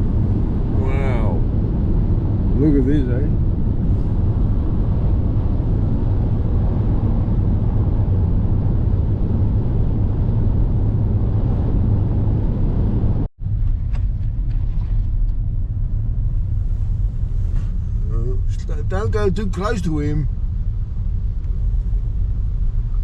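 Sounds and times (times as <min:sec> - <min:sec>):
car interior road and engine rumble: 0:00.0 - 0:23.0.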